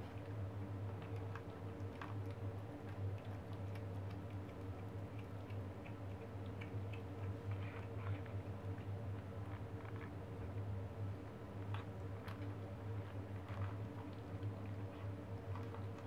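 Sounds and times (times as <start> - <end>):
kitten chewing clicks: 0.0 - 16.0.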